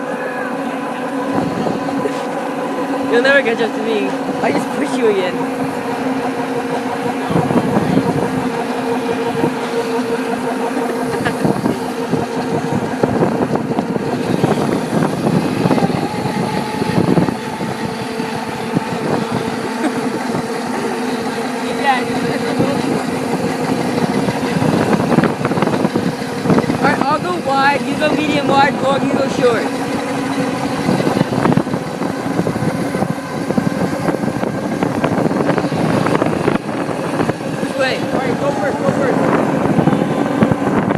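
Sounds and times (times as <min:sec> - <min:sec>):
small bike engine running: 0:00.0 - 0:40.9.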